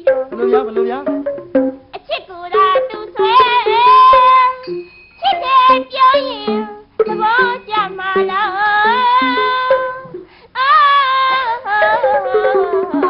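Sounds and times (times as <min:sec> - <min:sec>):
instrumental accompaniment: 0:00.0 - 0:13.0
woman singing ornamented melody: 0:02.0 - 0:13.0.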